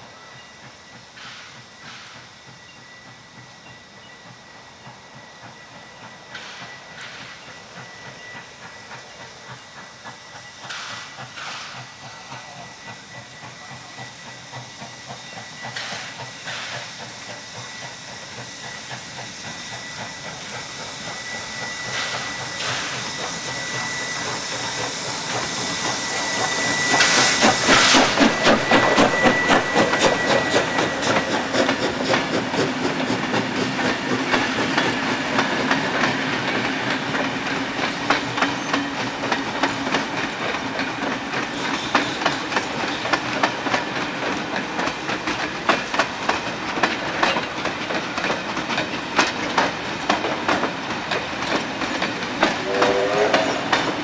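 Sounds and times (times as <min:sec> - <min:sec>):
steam locomotive exhaust and hiss: 0:00.0 - 0:54.0
train wheels clattering over rail joints: 0:06.1 - 0:54.0.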